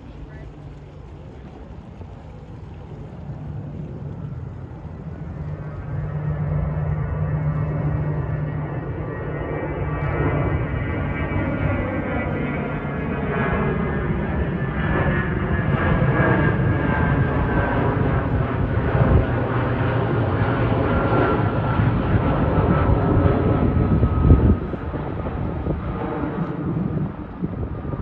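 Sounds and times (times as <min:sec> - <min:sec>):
jet aircraft flying past: 0:00.0 - 0:28.0.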